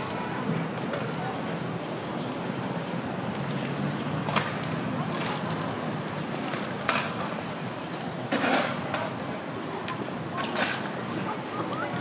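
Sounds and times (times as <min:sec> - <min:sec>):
faint background chatter: 0:00.0 - 0:12.0.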